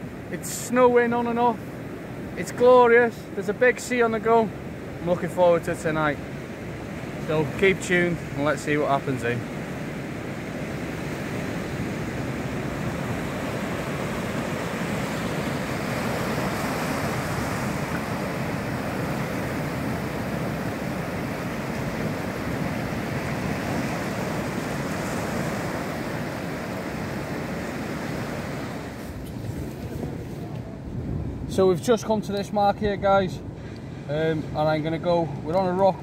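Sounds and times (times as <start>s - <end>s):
surf breaking on sandy beach: 2.2s - 31.5s.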